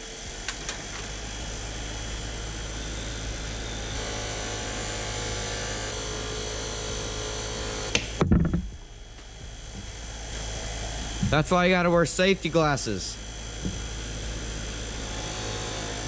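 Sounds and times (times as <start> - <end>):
bench grinder motor hum: 0.0 - 8.2, 8.8 - 16.0.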